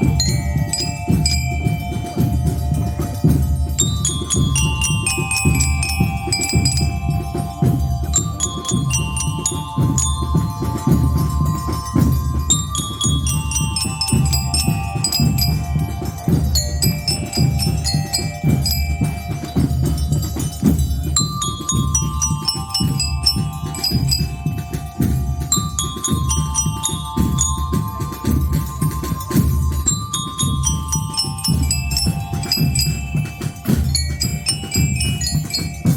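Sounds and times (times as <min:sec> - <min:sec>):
bell lyre melody: 0:00.0 - 0:35.9
marching band drumming: 0:00.0 - 0:35.9.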